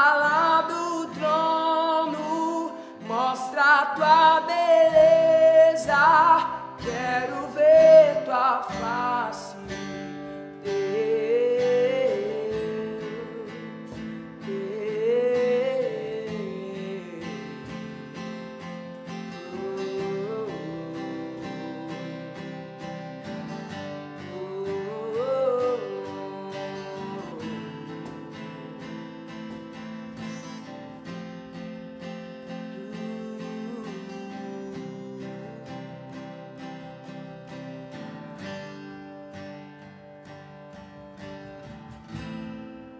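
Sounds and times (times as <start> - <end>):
man singing: 0.0 - 37.6
strummed acoustic guitar: 0.0 - 42.9.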